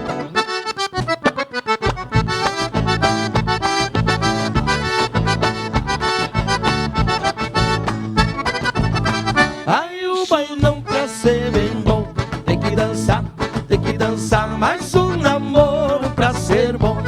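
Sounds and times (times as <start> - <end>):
accordion melody: 0.0 - 9.8, 10.7 - 17.0
live band playing dance music: 0.0 - 9.9, 10.5 - 17.0
steady bass beat: 1.9 - 9.6, 10.6 - 17.0.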